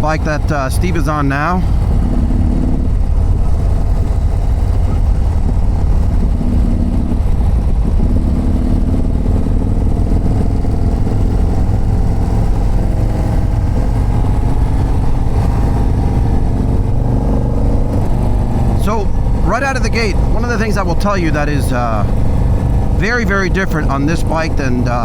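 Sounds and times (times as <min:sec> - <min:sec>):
wind rumble on microphone: 0:00.0 - 0:23.7
motorcycle engine running: 0:00.0 - 0:25.0.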